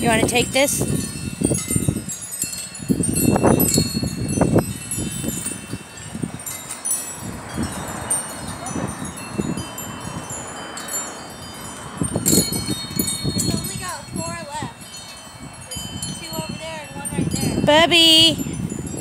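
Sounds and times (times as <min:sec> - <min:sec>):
wind chimes ringing: 0:00.0 - 0:19.0.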